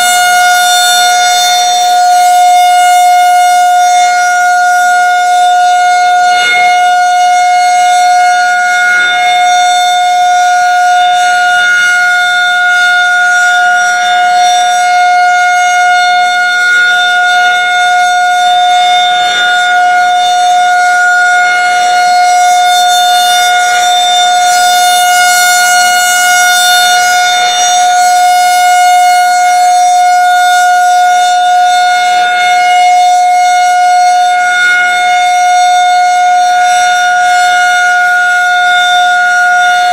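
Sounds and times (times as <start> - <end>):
rotating warning siren steady tone: 0.0 - 39.9.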